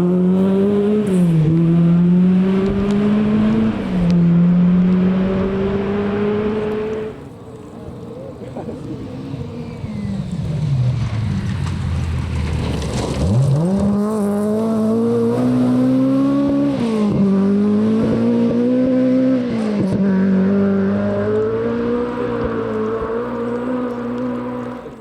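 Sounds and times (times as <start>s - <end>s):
rally car engine revving: 0.0s - 7.3s, 8.3s - 25.0s.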